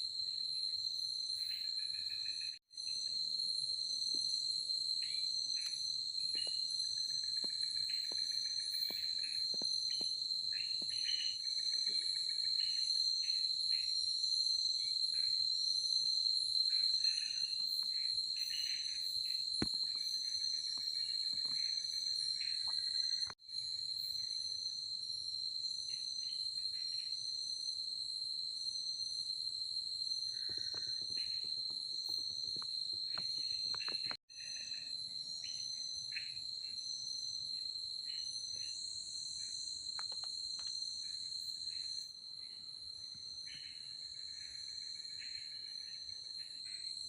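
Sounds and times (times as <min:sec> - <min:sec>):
shrill insect trill: 0:00.0 - 0:47.0
lower insect chirps: 0:00.1 - 0:47.0.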